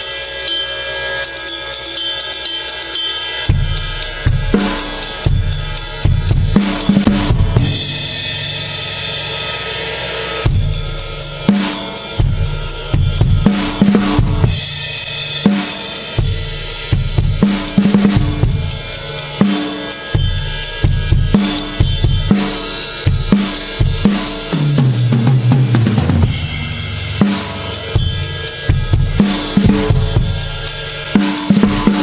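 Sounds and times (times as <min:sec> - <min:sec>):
crash cymbal ringing: 0:00.0 - 0:25.1, 0:26.2 - 0:32.0
drum kit beat with tom fills: 0:00.0 - 0:32.0.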